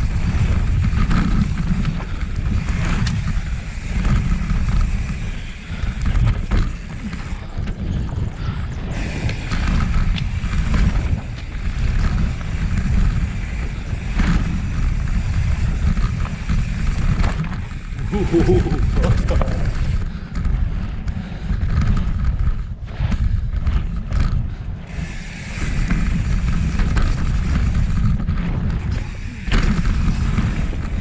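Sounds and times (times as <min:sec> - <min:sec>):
bike knocking and rattling: 0:00.0 - 0:31.0
bike rolling on dirt trail: 0:00.0 - 0:31.0
wind buffeting microphone: 0:00.0 - 0:31.0.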